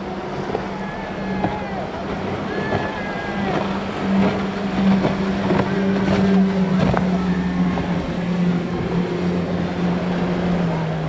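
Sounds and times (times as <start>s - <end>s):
outboard engine drone: 0.0s - 11.0s
water rushing past hull: 0.0s - 11.0s.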